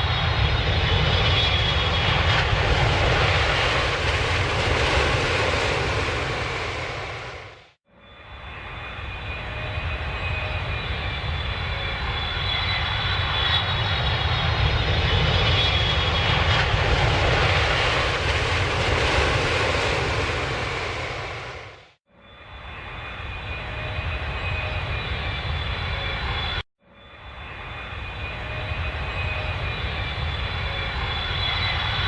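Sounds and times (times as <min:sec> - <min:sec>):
airplane engine rumble: 0:00.0 - 0:32.0
engine high whine: 0:00.0 - 0:32.0.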